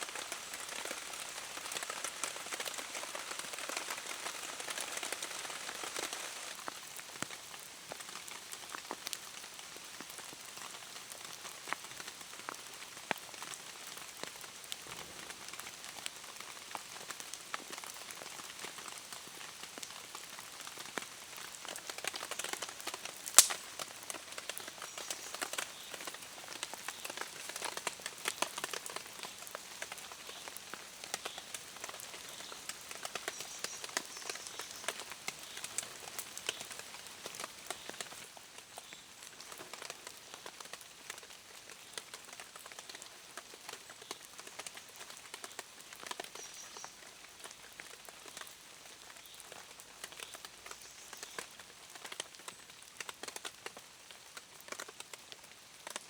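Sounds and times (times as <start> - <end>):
rain falling in a forest: 0.0 - 56.0
raindrops ticking and pattering: 0.0 - 56.0.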